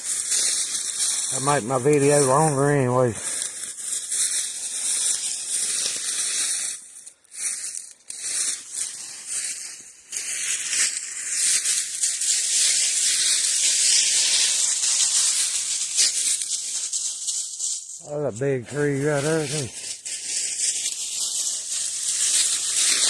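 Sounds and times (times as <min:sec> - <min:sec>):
footsteps through dry leaves: 0:00.0 - 0:23.0.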